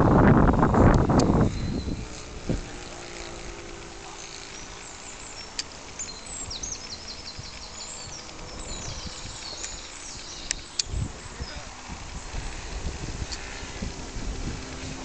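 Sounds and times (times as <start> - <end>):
birds chirping: 0.0 - 15.0
model aircraft drone overhead: 0.0 - 15.0.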